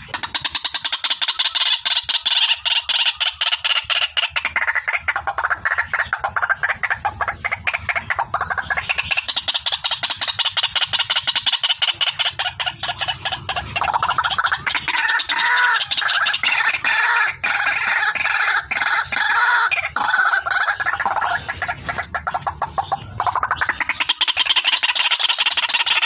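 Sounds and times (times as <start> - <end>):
waterhen harsh croaking calls: 0.0 - 26.0.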